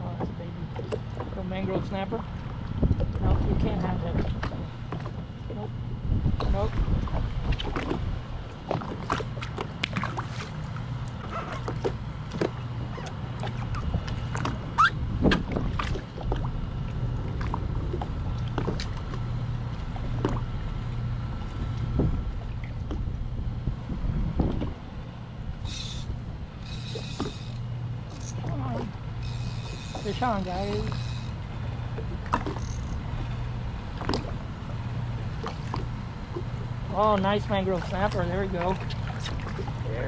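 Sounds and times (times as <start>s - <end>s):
low hum: 0.0s - 40.0s
waves slapping against hull: 0.0s - 40.0s.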